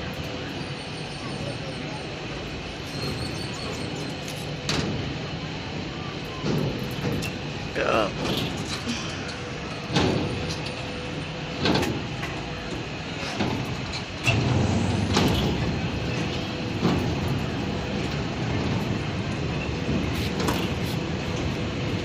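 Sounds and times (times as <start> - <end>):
amusement ride mechanical rumble: 0.0 - 22.0.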